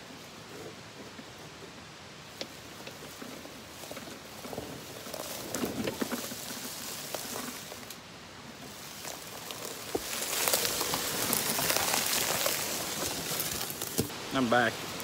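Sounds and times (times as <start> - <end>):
tires crunching over dry leaves: 0.0 - 15.0.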